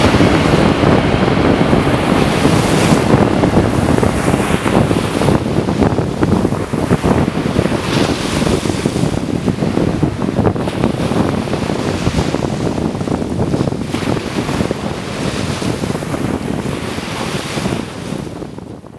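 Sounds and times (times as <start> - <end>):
sea waves: 0.0 - 18.9
wind buffeting microphone: 0.0 - 18.9.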